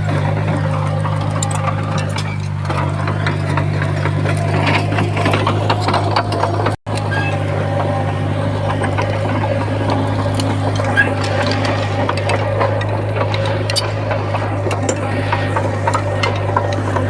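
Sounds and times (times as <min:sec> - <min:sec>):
bulldozer diesel engine droning: 0:00.0 - 0:17.0
steel tracks clanking: 0:00.0 - 0:17.0.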